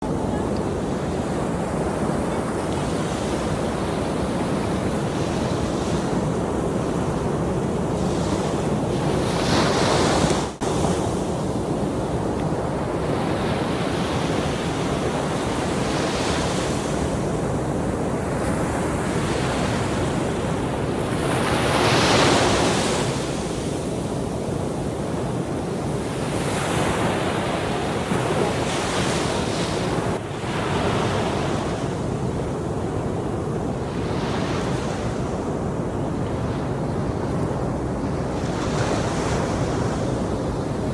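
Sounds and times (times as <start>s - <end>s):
sea waves washing on shore: 0.0s - 40.9s.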